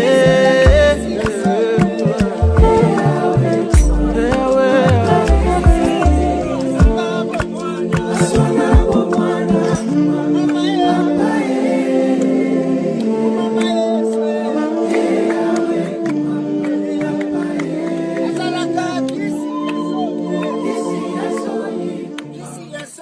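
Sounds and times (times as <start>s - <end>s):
group singing without instruments: 0.0s - 23.0s.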